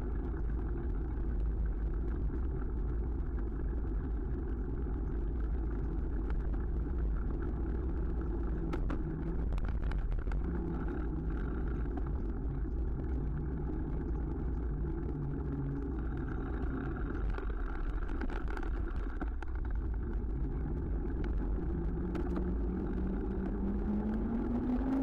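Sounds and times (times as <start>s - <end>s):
wind rumble on microphone: 0.0s - 25.0s
car engines humming in traffic: 4.3s - 25.0s.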